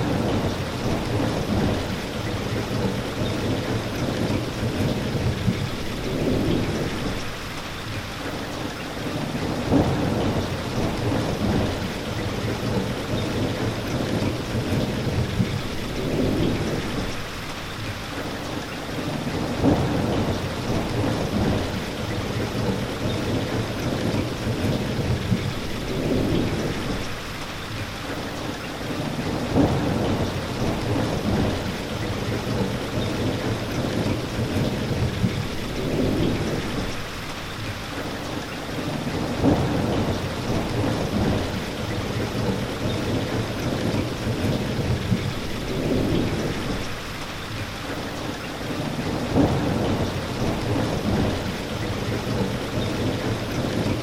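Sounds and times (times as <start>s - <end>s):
rolling thunder rumble: 0.0s - 7.9s, 9.1s - 17.8s, 19.0s - 27.7s, 29.0s - 37.6s, 38.8s - 47.5s, 48.7s - 54.0s
steady rain falling: 0.0s - 54.0s.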